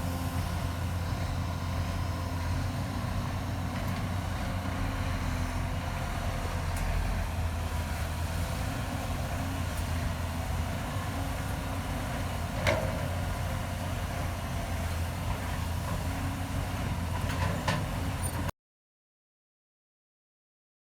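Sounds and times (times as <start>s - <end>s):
heavy diesel engine running: 0.0s - 18.5s.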